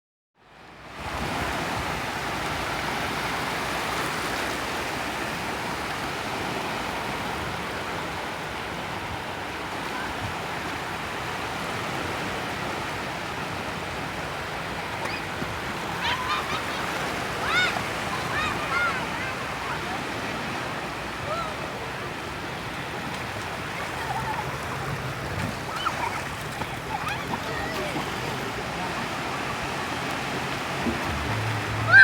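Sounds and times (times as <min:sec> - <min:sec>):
waves breaking: 0:00.6 - 0:32.0.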